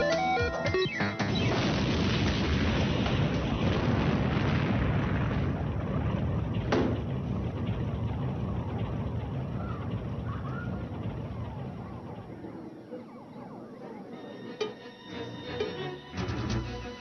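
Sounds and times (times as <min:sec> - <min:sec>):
loud steady rushing noise: 0:01.4 - 0:16.5.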